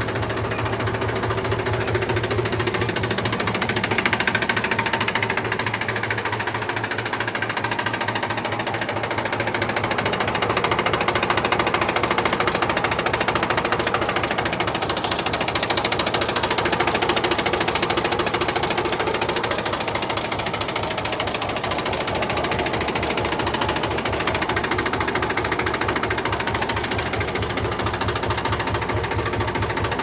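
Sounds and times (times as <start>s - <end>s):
tractor diesel engine clatter: 0.0s - 30.0s.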